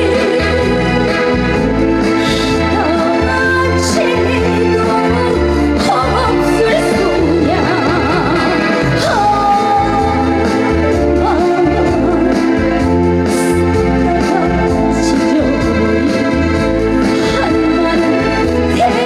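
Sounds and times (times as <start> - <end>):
electronic organ chords: 0.0 - 19.0
pulsing bass beat: 0.0 - 19.0
wavering lead melody: 0.0 - 19.0.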